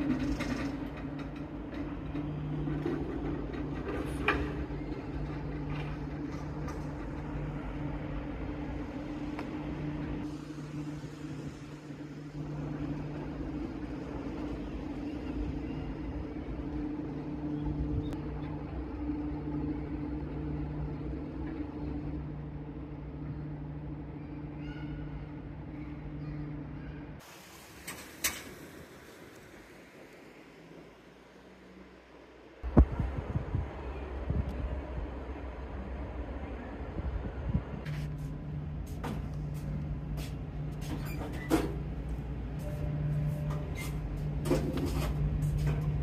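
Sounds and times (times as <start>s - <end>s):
suspended rail car humming: 0.0s - 46.0s.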